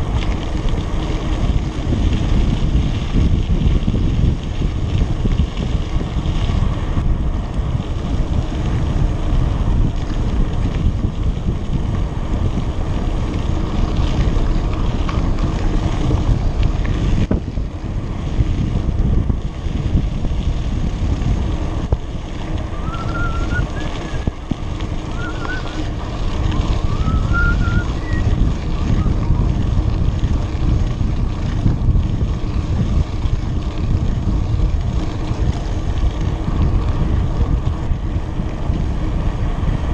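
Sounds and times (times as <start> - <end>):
wind buffeting microphone: 0.0 - 39.9
tyres on gravel: 4.6 - 39.1.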